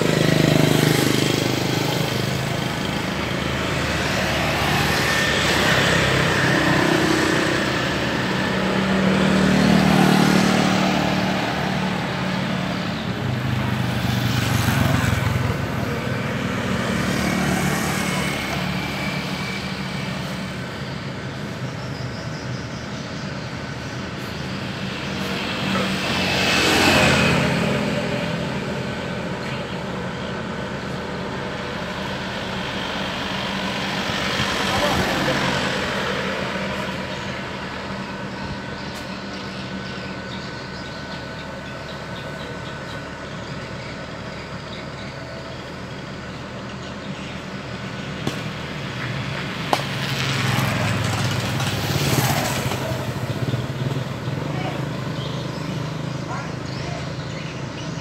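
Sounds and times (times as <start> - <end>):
motor scooter passing: 0.0 - 46.7, 47.3 - 58.0.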